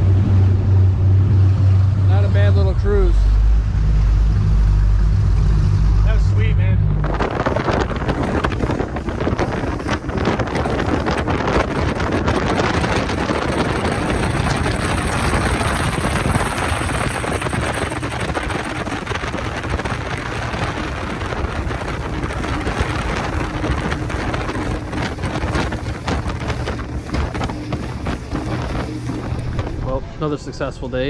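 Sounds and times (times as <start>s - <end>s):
powerboat engines running: 0.0s - 31.0s
wind on microphone: 0.0s - 31.0s.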